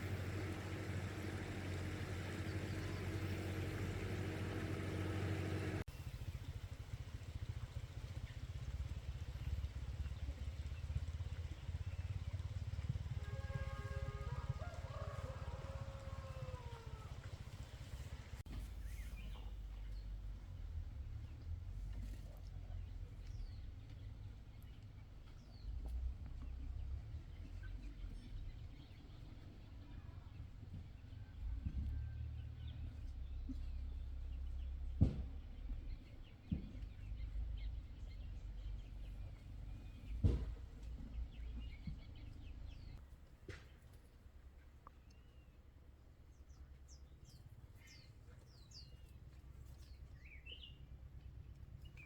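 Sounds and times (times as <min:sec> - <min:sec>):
engine running with fast pulse: 0:00.0 - 0:43.0
lower duller engine sound: 0:00.0 - 0:43.1
low uneven rumble: 0:00.0 - 0:43.4.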